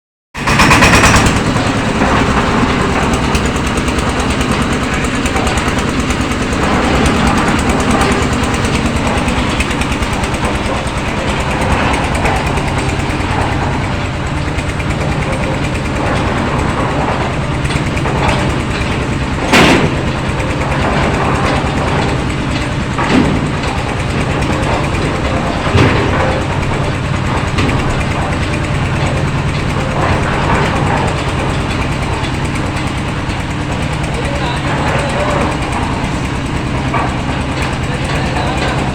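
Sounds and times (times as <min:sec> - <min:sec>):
engine running: 0:00.4 - 0:38.9
sharp knocks: 0:00.4 - 0:38.9.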